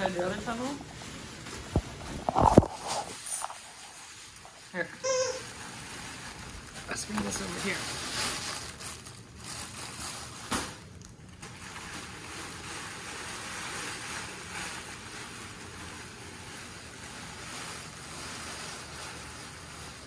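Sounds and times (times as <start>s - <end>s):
fabric tunnel rustling: 0.0s - 20.0s.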